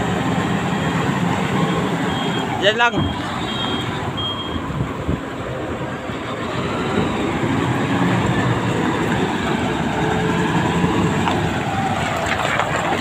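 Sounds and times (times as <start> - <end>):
forklift diesel engine running: 0.0 - 13.0.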